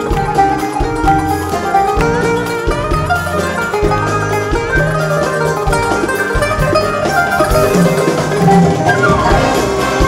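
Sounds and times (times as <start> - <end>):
drum strokes: 0.0 - 10.0
instrumental ensemble: 0.0 - 10.0
plucked qanun melody: 0.0 - 10.0.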